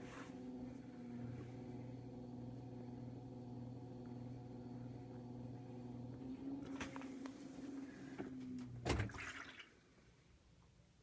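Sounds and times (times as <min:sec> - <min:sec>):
washing machine motor humming: 0:00.0 - 0:09.7.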